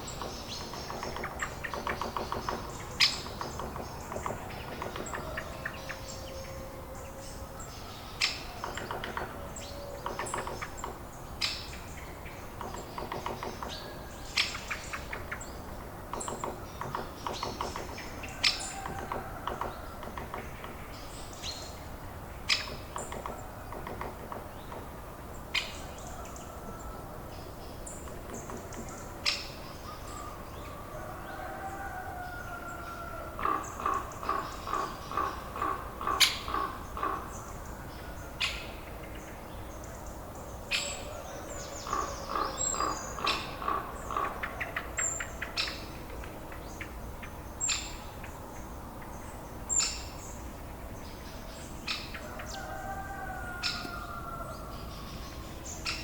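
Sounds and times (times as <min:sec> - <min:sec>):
birds chirping: 0:00.0 - 0:56.0
rapid repeated bird calls: 0:00.0 - 0:56.0.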